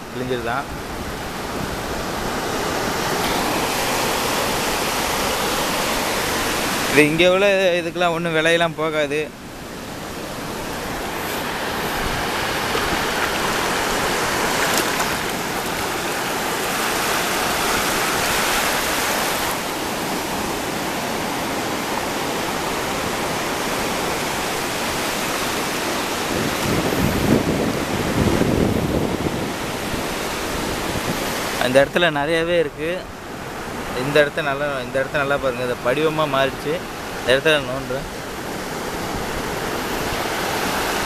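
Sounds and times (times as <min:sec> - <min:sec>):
surf washing over sand: 0:00.0 - 0:41.0.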